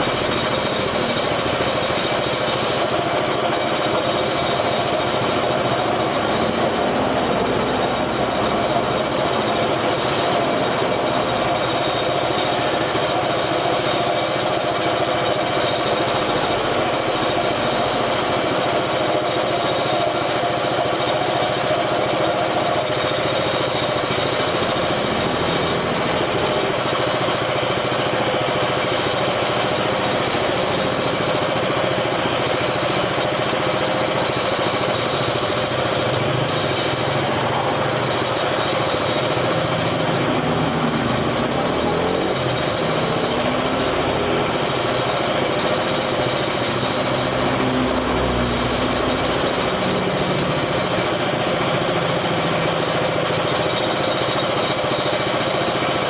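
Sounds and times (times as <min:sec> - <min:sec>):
spray gun hissing: 0:00.0 - 0:10.4, 0:11.1 - 0:56.0
air compressor running: 0:00.0 - 0:56.0.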